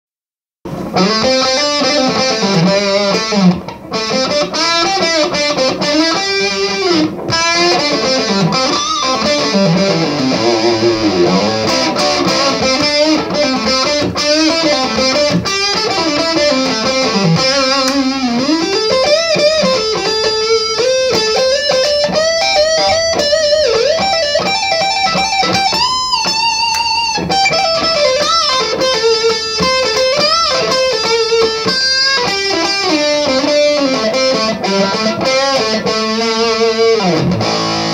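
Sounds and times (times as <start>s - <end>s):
electric guitar lead solo: 0.7s - 37.9s.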